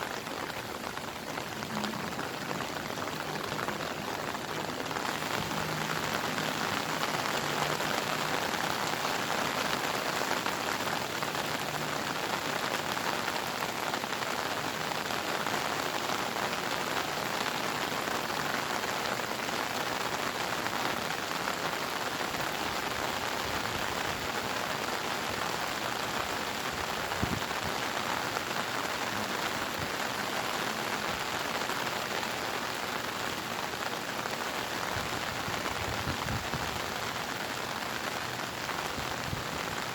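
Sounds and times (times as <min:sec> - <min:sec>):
heavy rain pouring: 0:00.0 - 0:39.9
raindrops pattering on surfaces: 0:00.0 - 0:39.9.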